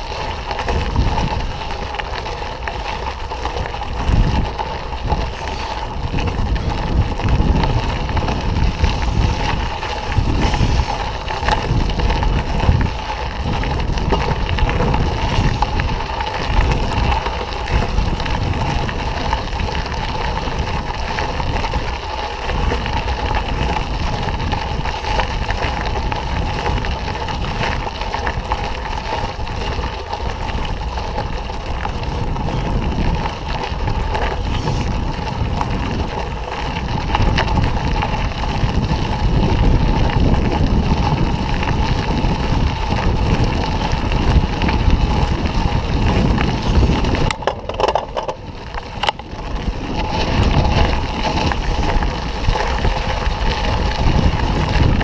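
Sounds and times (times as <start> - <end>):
mountain bike rattling on dirt trail: 0.0 - 55.0
wind buffeting microphone: 0.0 - 55.0.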